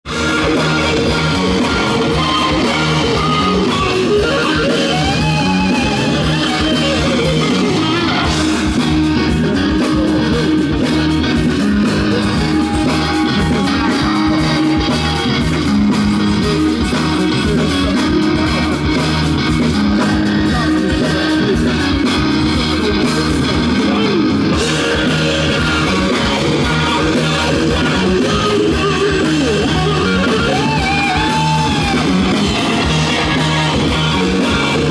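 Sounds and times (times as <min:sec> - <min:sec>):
bending electric guitar line: 0:00.0 - 0:34.9
live rock band playing: 0:00.0 - 0:34.9.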